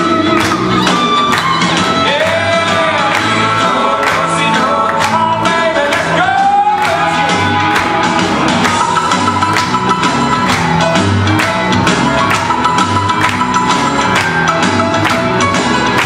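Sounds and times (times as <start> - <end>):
country song over loudspeakers: 0.0 - 16.0.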